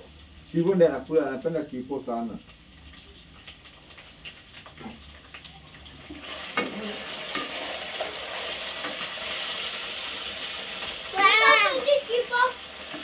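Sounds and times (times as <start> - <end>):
chips frying in hot oil: 0.0 - 13.0.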